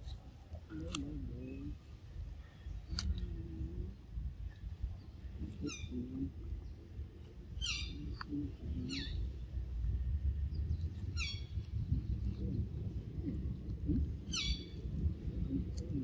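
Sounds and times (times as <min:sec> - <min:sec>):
low rumbling background: 0:00.0 - 0:16.0.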